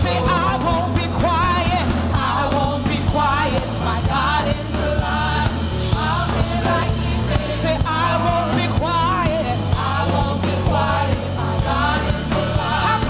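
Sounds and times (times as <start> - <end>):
drums and bass: 0.0 - 13.0
people singing: 0.0 - 13.0.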